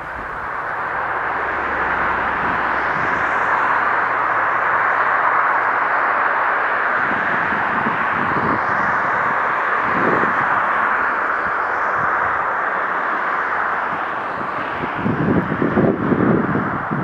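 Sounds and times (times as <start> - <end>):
distant train rushing: 0.0 - 17.0
low rumbles: 0.0 - 17.0.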